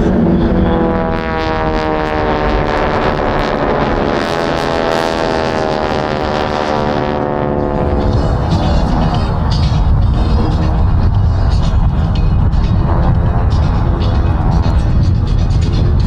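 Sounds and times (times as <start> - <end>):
propeller planes droning overhead: 0.0 - 16.0.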